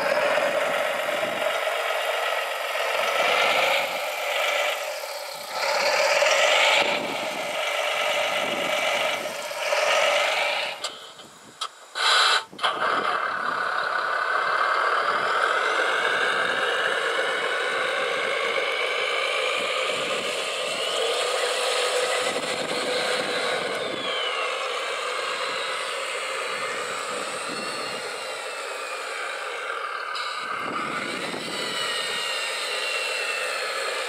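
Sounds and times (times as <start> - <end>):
electric motor and hydraulic whine: 0.0 - 34.0.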